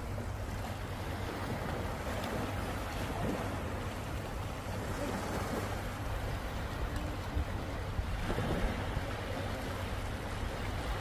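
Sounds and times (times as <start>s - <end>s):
small surf breaking on beach: 0.0s - 11.0s
wind buffeting microphone: 0.0s - 11.0s.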